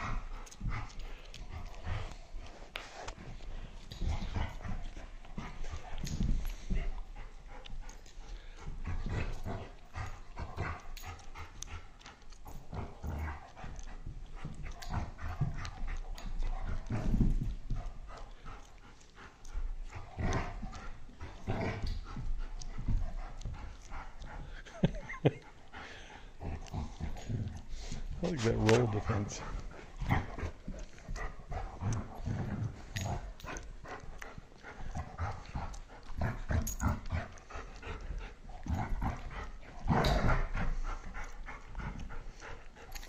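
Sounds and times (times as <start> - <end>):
dogs scuffling on carpet: 0.0 - 24.7, 26.4 - 42.8
dog play noises: 0.0 - 43.0.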